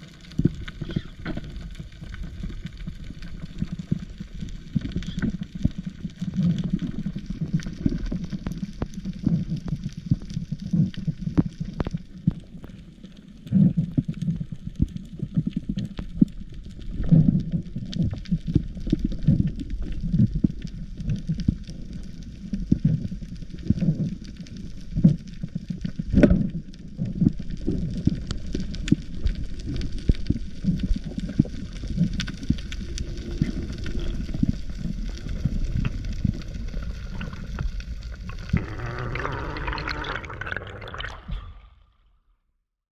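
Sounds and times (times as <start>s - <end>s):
underwater churning rumble: 0.0s - 41.8s.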